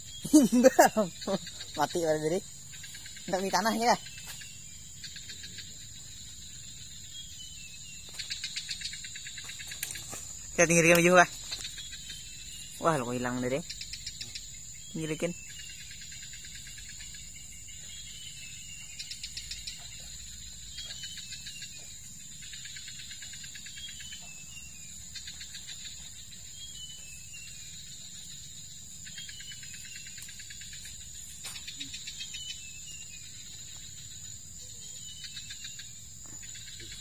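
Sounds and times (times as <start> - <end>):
insect ticking trill: 0.0 - 37.0
insects droning: 0.0 - 37.0
small birds chirping: 0.0 - 37.0.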